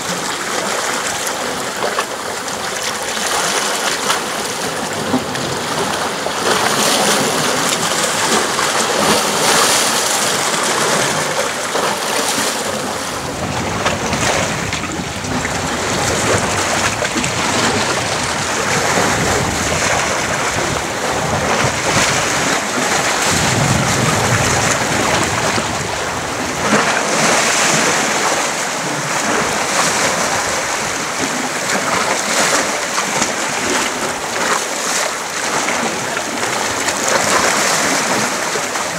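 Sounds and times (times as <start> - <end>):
sea water washing over rocks: 0.0 - 38.9.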